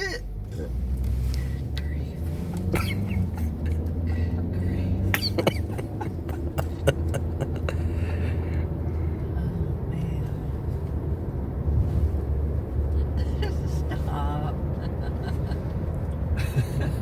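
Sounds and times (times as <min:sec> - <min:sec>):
car cabin low rumble: 0:00.0 - 0:17.0.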